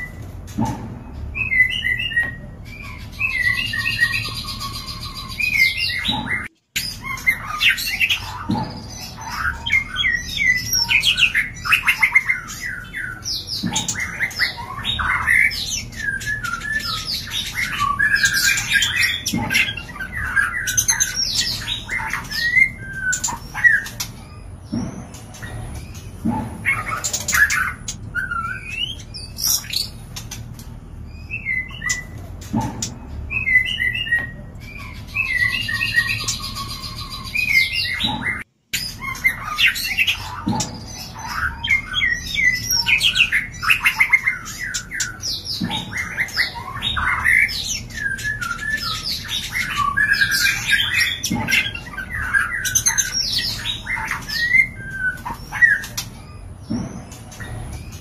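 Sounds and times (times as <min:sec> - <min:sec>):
bird chirps whistles and trills: 0:00.0 - 0:58.0.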